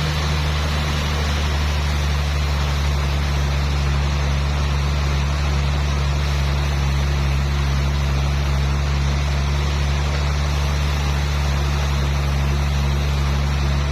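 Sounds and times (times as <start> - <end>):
sawmill machinery motor hum: 0.0 - 13.9.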